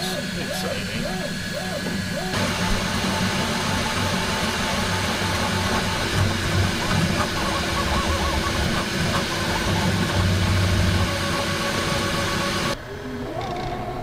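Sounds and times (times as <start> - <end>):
stepper motor whine: 0.0 - 12.9
fan and motor hum: 0.0 - 14.0.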